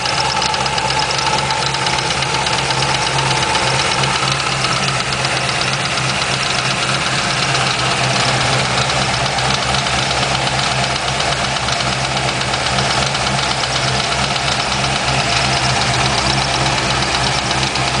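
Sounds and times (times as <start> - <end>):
car engine idling: 0.0 - 18.0
fast even engine ticking: 0.0 - 18.0.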